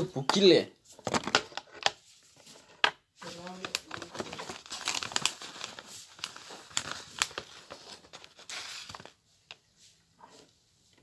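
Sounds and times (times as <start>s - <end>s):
packaging crinkling and rustling: 0.4s - 9.7s.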